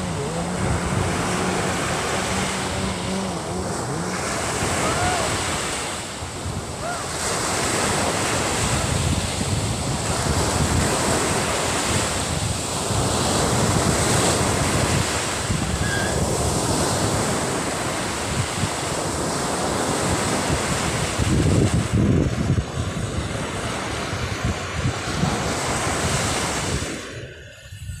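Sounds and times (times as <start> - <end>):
small waves breaking on beach: 0.0 - 28.0
wind buffeting microphone: 0.0 - 28.0.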